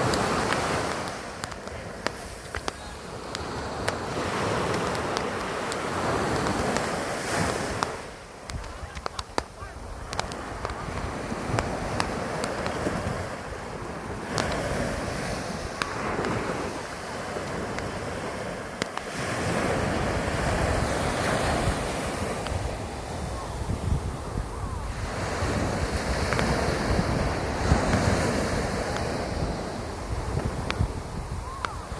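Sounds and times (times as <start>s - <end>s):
sea waves breaking: 0.0s - 31.9s
wind rumbling on microphone: 0.0s - 31.9s.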